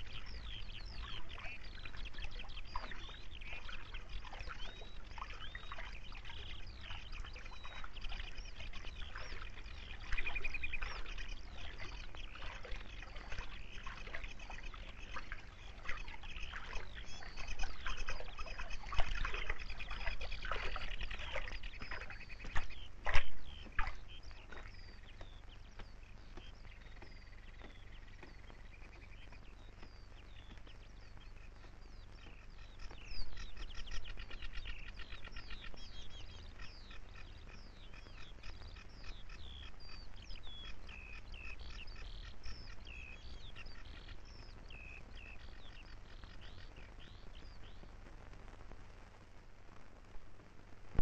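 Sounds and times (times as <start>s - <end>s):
birds chirping and trilling: 0.0s - 47.9s.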